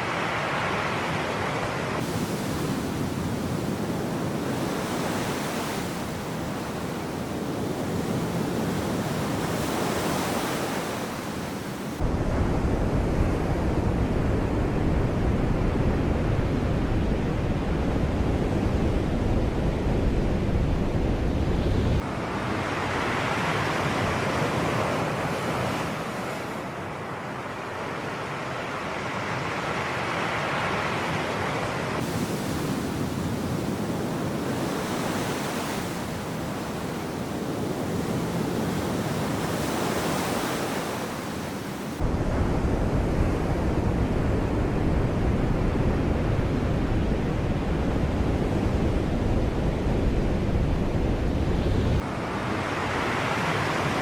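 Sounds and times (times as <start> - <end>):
sea waves washing in surf: 0.0 - 21.2, 21.9 - 54.0
wind rumble on microphone: 0.6 - 26.7, 31.0 - 54.0.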